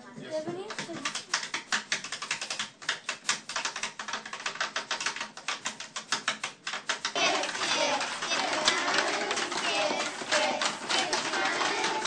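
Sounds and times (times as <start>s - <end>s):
rapid uneven clicking: 0.7s - 12.0s.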